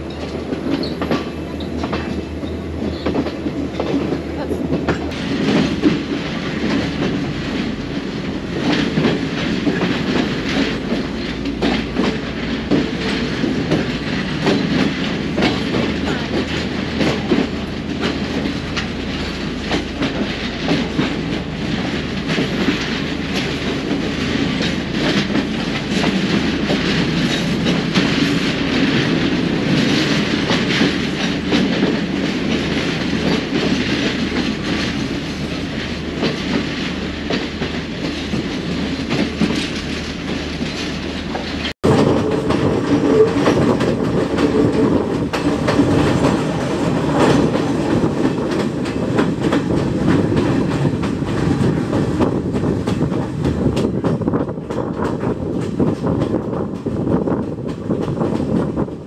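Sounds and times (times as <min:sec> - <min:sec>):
train carriage rumbling: 0:00.0 - 0:59.0
wheels clacking over rails: 0:00.0 - 0:59.0.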